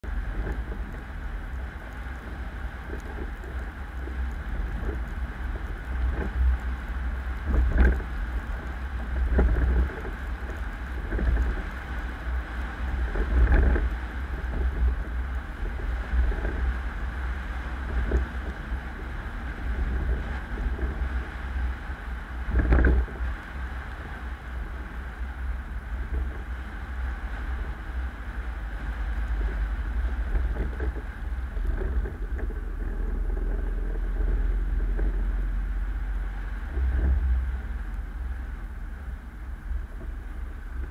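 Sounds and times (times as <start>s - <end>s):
car road and engine rumble: 0.0s - 40.9s
wind noise on microphone: 0.0s - 40.9s.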